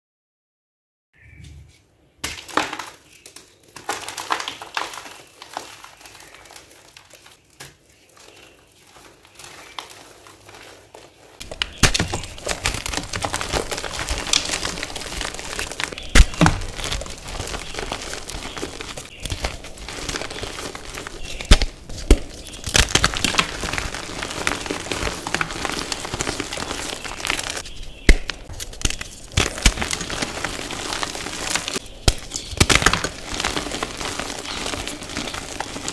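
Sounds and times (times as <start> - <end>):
hands crunching chalk blocks: 2.2 - 35.9.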